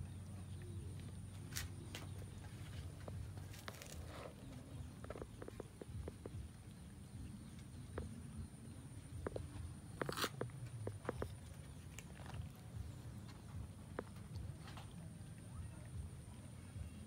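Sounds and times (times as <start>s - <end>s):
cats chewing and licking: 0.0s - 17.0s.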